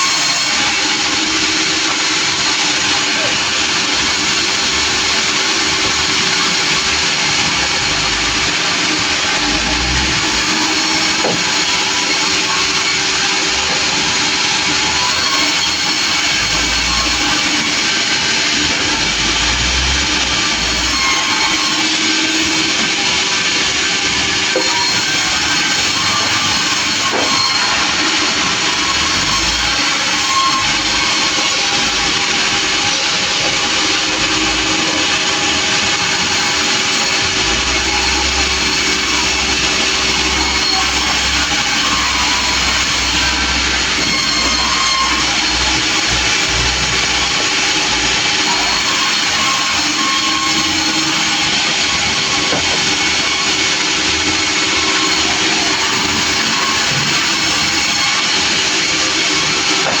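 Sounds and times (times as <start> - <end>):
saw hissing: 0.1 - 60.0.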